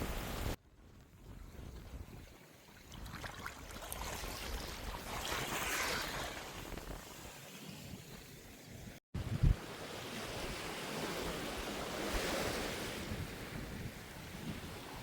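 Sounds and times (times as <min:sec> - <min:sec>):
small waves washing onto beach: 0:01.6 - 0:08.7, 0:09.4 - 0:15.0.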